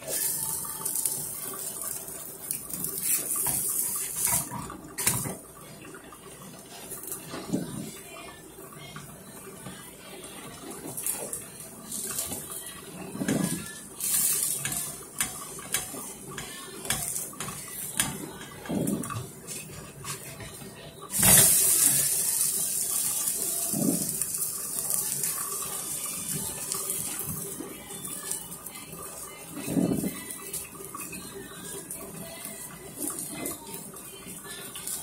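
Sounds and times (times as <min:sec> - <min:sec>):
pancake sizzling in oil: 0:00.0 - 0:05.5, 0:09.2 - 0:35.0.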